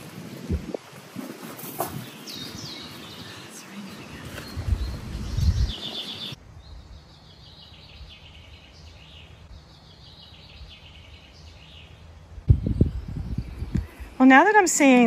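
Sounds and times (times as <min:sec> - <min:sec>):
birds singing and chirping: 0:01.6 - 0:14.9.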